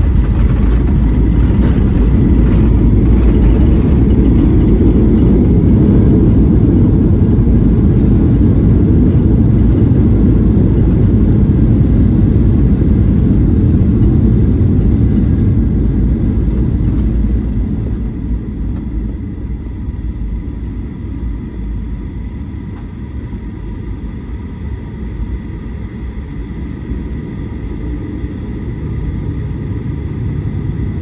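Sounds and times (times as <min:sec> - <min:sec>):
low rumble of wheels and engines: 0:00.0 - 0:31.0.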